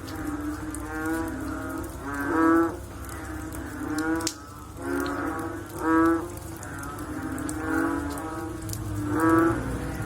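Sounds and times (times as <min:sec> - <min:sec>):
frogs croaking: 0:00.0 - 0:10.0
wet background hiss: 0:00.0 - 0:10.0.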